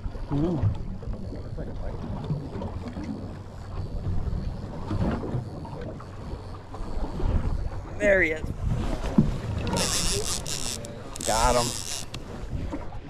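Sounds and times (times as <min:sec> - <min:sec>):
boat engine humming: 0:00.0 - 0:13.0
wind noise on microphone: 0:00.0 - 0:13.0.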